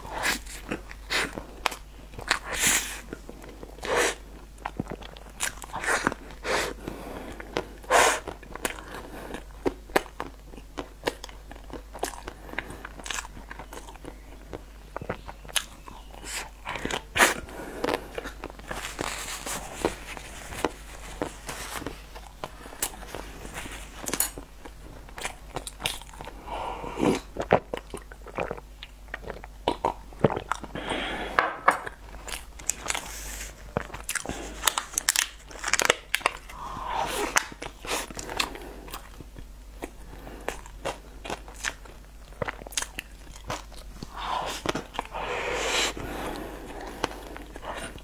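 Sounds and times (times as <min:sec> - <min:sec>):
mouth chewing cake: 0:00.0 - 0:48.0.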